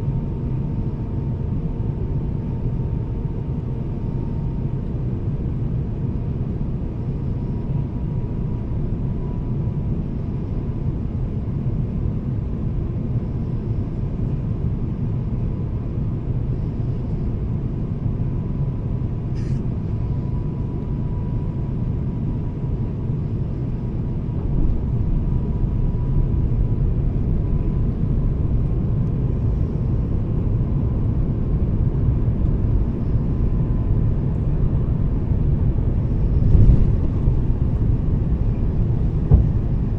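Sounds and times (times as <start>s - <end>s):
faint steady whine: 0.0s - 39.9s
rumble of airflow and engines: 0.0s - 39.9s.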